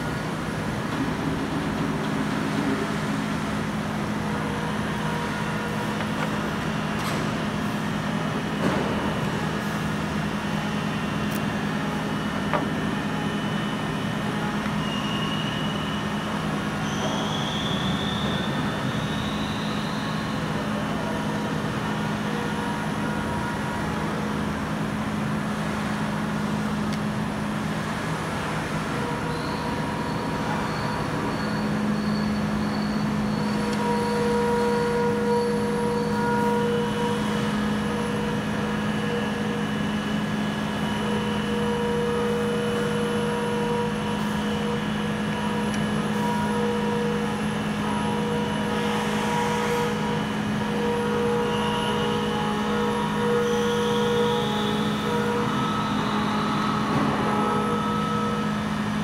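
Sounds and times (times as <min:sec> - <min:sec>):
machinery hum: 0:00.0 - 0:59.0.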